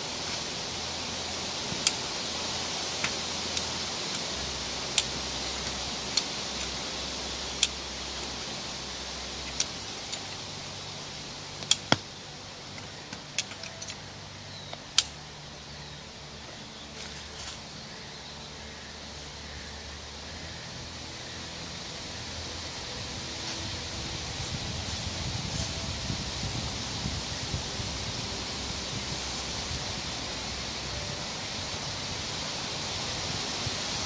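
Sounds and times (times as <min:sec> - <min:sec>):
outdoor rustling hiss: 0:00.0 - 0:34.0.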